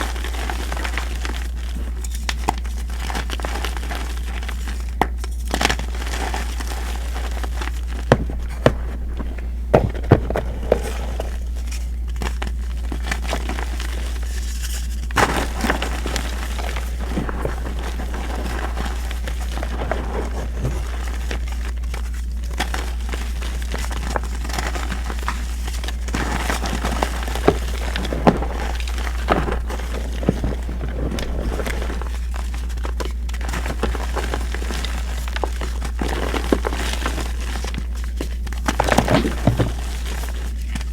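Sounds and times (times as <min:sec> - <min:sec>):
chalk crunching by hand: 0:00.0 - 0:40.9
steady low hum: 0:00.0 - 0:40.9.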